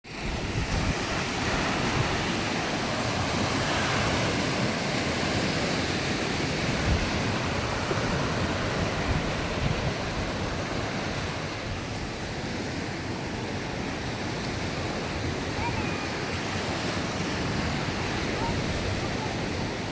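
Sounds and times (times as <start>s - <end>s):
waves washing onto sandy beach: 0.0s - 19.9s.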